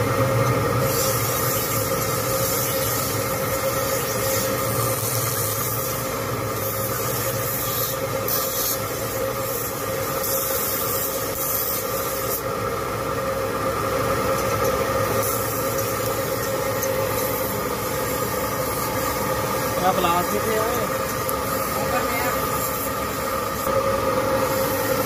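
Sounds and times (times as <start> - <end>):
grinding machine motor hum: 0.0 - 25.0
blade grinding on wheel hiss: 0.7 - 12.5, 14.3 - 23.7, 24.3 - 25.0.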